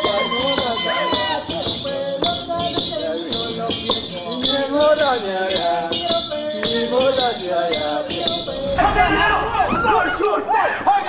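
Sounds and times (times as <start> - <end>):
jingling shaker percussion: 0.0 - 9.0.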